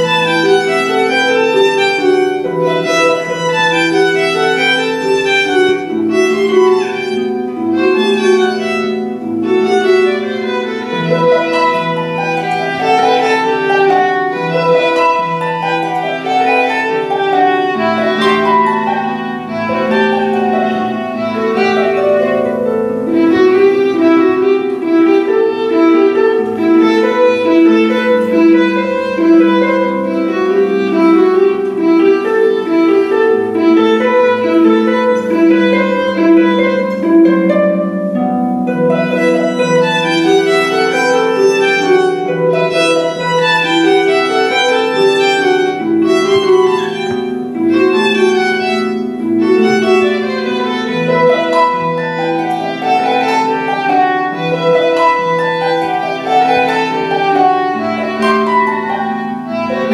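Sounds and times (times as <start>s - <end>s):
bowed violin melody: 0.0s - 59.9s
plucked harp notes: 0.0s - 59.9s.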